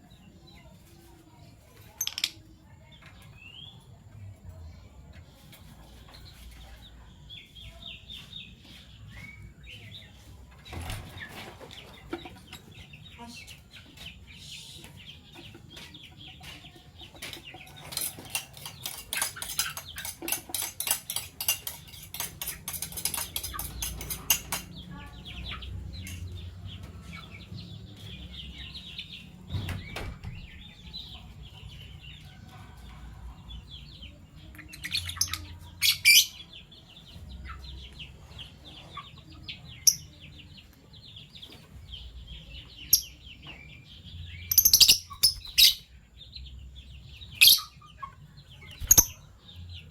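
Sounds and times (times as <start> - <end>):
lovebirds chattering and chirping: 0.0 - 49.9.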